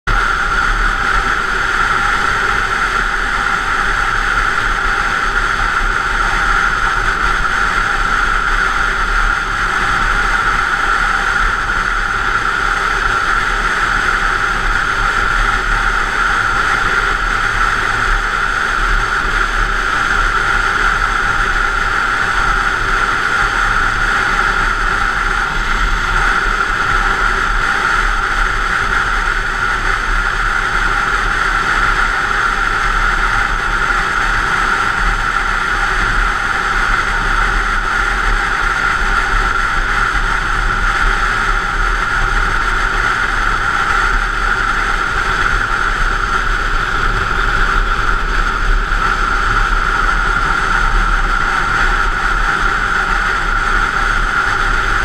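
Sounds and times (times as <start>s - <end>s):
vehicle engine drone: 0.0s - 55.0s
wind rush: 0.1s - 55.0s.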